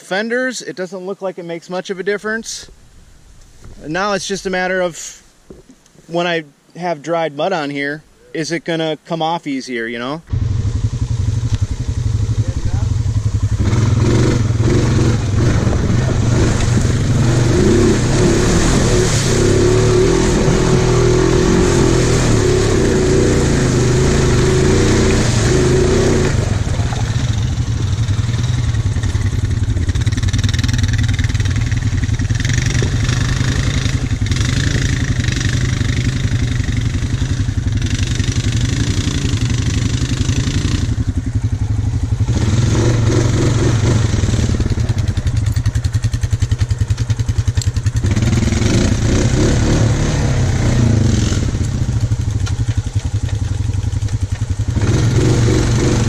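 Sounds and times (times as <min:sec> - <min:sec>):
tyres through mud: 0:09.5 - 0:56.0
atv engine running: 0:10.2 - 0:56.0.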